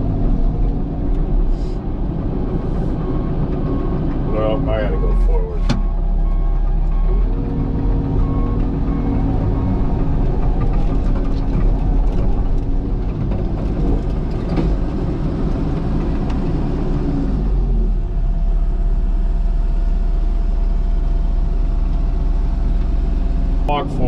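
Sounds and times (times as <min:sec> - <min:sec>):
excavator diesel engine under load: 0:00.0 - 0:24.0.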